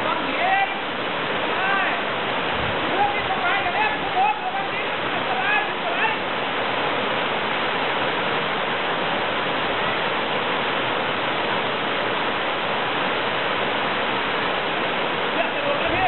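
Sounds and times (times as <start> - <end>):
waterfall splashing into pool: 0.0 - 16.0.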